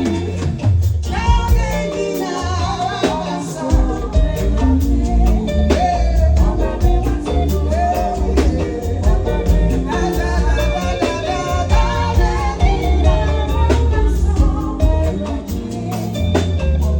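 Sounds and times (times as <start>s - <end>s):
heavy bass line: 0.0s - 16.9s
upbeat music with singing: 0.0s - 16.9s.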